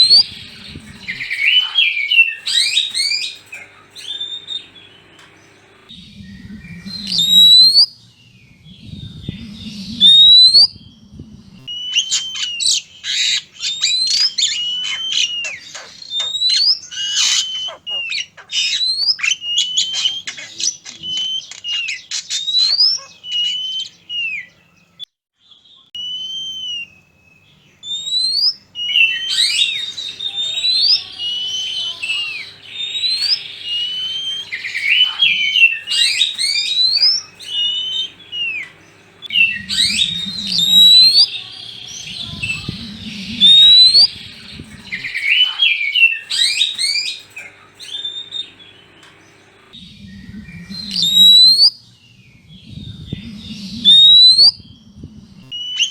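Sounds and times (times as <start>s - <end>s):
bird singing whistled phrases: 0.0s - 5.2s, 5.9s - 55.9s.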